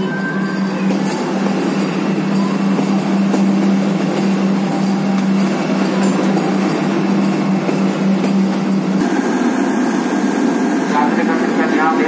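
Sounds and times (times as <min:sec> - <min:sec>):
electric train humming: 0:00.0 - 0:12.0
broad rushing noise: 0:00.9 - 0:12.0.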